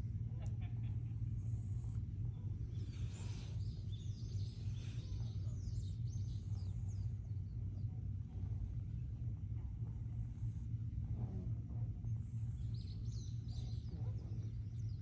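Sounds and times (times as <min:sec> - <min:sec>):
steady low hum: 0:00.0 - 0:15.0
small birds twittering: 0:01.5 - 0:11.2, 0:11.8 - 0:15.0.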